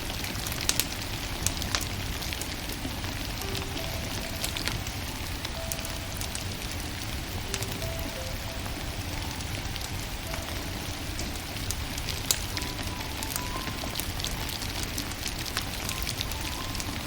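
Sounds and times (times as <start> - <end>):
soft slow music: 0.0 - 17.0
wood fire crackling and popping: 0.0 - 17.0.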